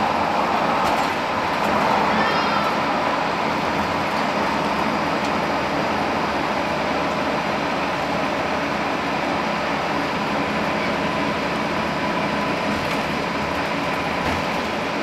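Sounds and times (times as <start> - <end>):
bus diesel engine cruising: 0.0 - 15.0
road and tyre noise: 0.0 - 15.0.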